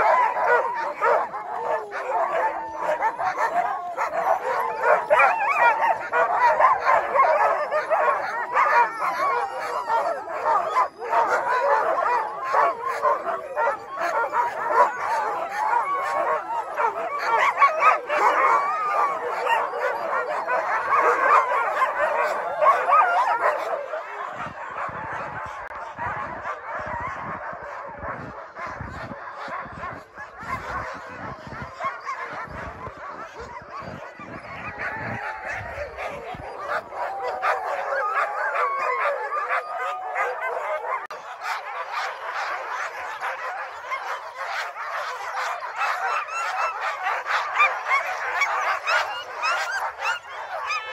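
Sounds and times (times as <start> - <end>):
sled dogs barking and yipping: 0.0 - 50.9.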